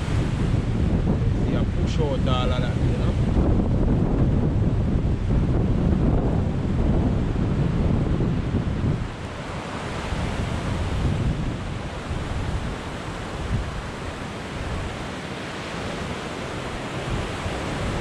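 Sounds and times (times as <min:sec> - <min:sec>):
sea surf washing onto beach: 0:00.0 - 0:18.0
wind buffeting microphone: 0:00.0 - 0:18.0.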